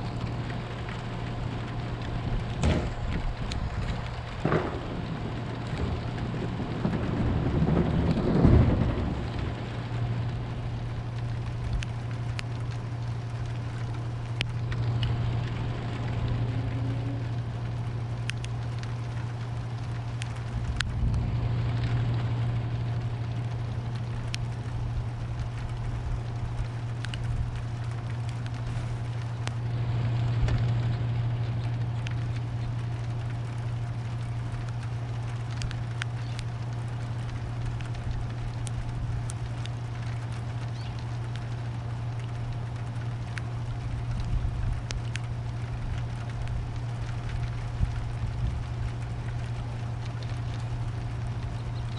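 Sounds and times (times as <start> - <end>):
steady low hum: 0.0 - 51.9
steady rain: 0.0 - 51.9
thunder rumbling: 0.0 - 51.9.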